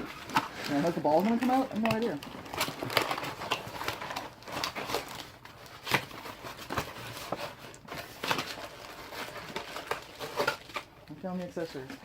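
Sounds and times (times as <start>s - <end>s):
packaging crinkling and scraping: 0.0s - 12.0s.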